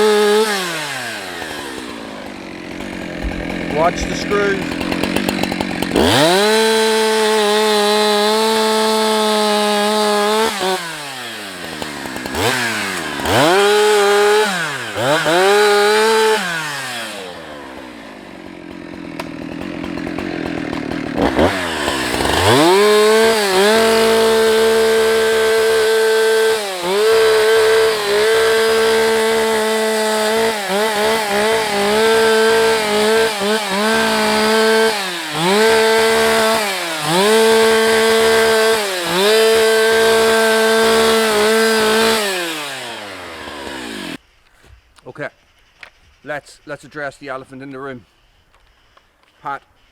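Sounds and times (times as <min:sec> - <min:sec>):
chainsaw cutting into tree: 0:00.0 - 0:44.2.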